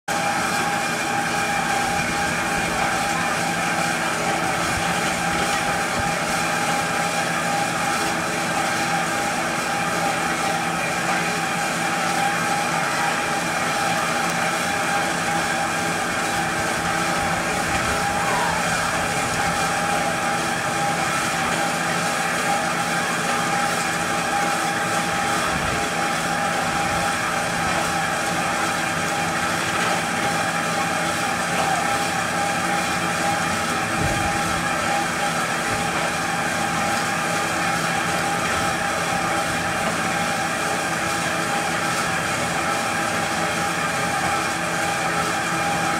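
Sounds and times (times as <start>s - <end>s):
ride machinery drone: 0.1s - 45.9s.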